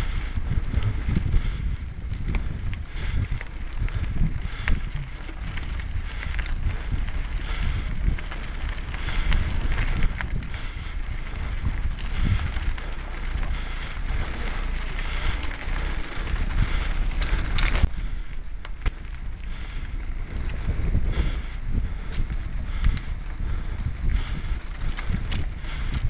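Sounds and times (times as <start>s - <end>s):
bike rattling on bumpy ground: 0.0s - 26.0s
wind buffeting microphone: 0.0s - 26.0s.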